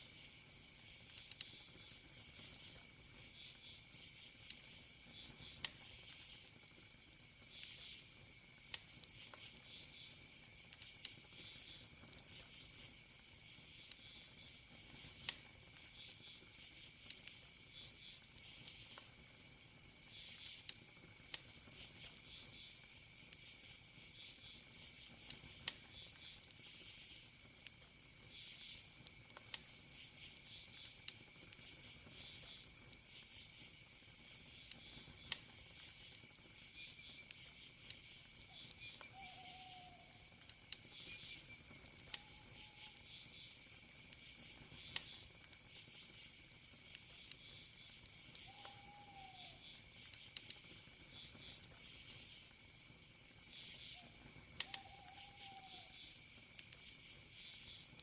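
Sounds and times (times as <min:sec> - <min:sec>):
crickets trilling: 0:00.0 - 0:58.0
wood fire crackling: 0:00.0 - 0:58.0.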